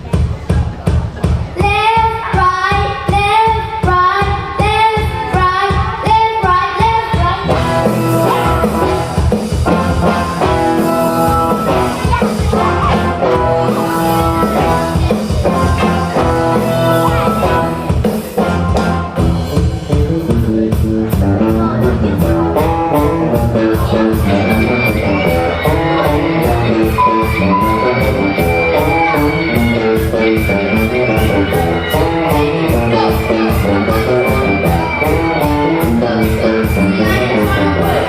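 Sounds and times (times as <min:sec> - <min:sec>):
live band playing: 0:00.0 - 0:38.0.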